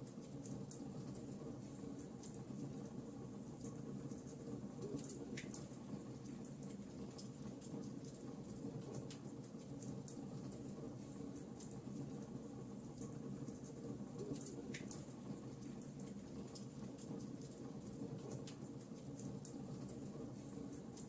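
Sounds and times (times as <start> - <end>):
wood fire crackling: 0.1 - 21.0.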